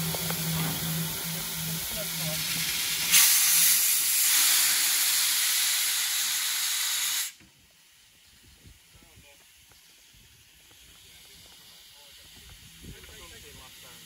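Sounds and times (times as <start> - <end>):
steam locomotive hissing steam: 0.0 - 8.1, 9.5 - 14.0.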